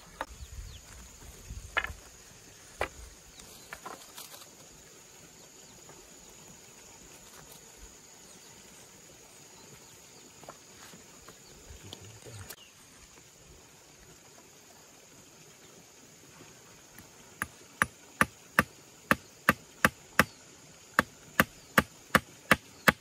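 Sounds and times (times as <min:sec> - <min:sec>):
faint high hiss: 0:00.0 - 0:23.0.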